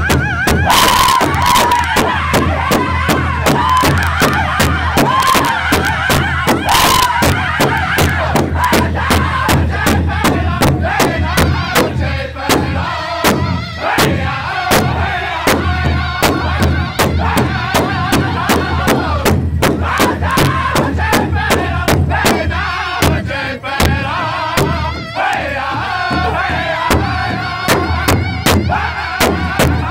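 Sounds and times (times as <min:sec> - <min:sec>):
drum group singing: 0:00.0 - 0:29.9
large hide drum beating: 0:00.0 - 0:29.9.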